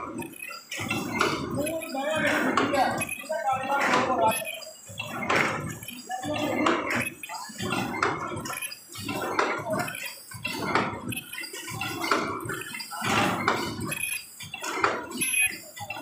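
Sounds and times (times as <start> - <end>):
machine clattering and hissing: 0.0 - 16.0.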